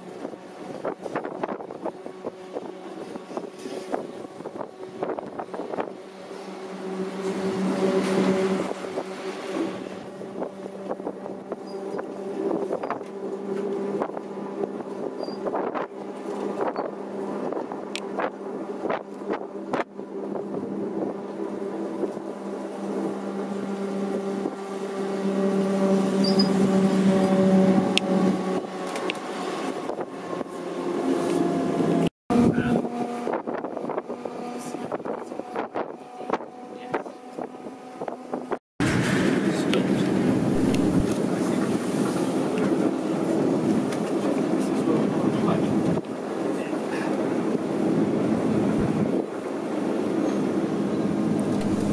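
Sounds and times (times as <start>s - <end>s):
rushing wind and snow: 0.0s - 51.9s
train low hum: 0.0s - 51.9s.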